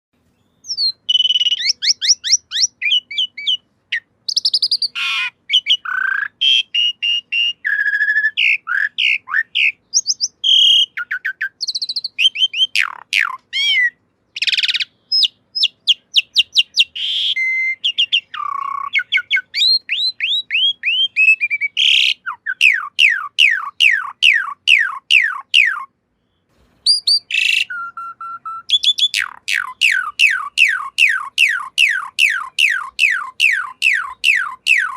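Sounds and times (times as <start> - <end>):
starling singing: 0.3 - 26.0, 26.9 - 34.9.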